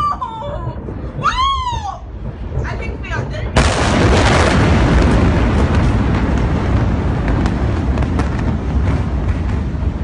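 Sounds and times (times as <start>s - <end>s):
fire crackling and popping: 0.0s - 10.0s
explosion roar: 0.5s - 10.0s.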